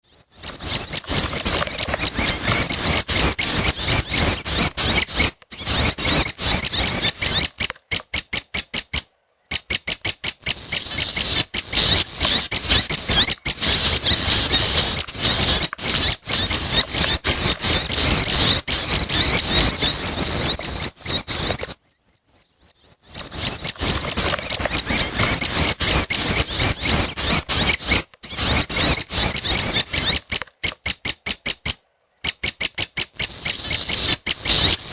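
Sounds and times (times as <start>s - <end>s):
bird calling in high runs: 0.0s - 34.9s.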